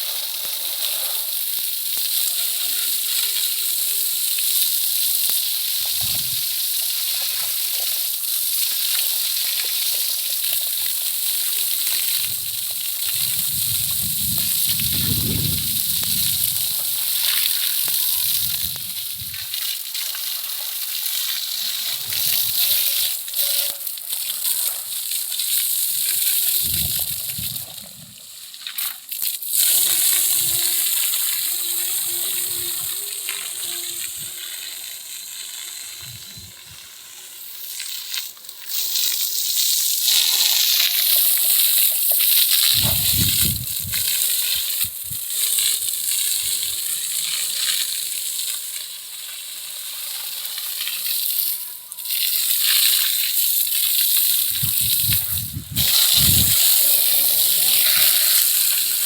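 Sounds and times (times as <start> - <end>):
high-pressure water jet hissing: 0.0 - 59.0.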